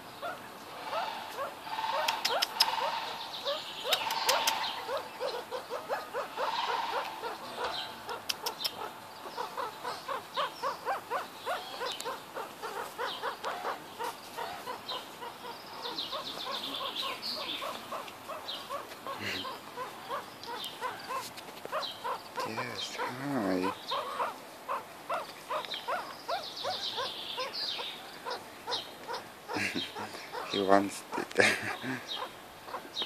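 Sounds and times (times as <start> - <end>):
high fine calls: 0.0 - 33.0
meerkats peeping: 0.2 - 33.0.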